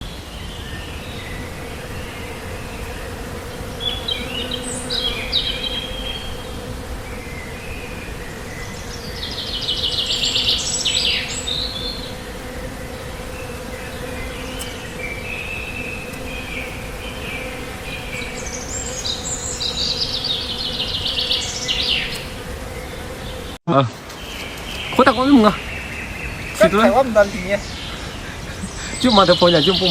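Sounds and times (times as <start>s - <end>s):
bees buzzing: 0.0s - 29.9s
birds chirping and trilling: 0.0s - 29.9s.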